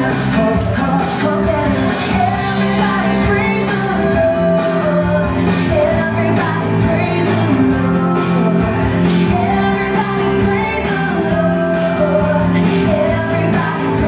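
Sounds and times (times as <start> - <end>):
upbeat song with singing: 0.0 - 14.0.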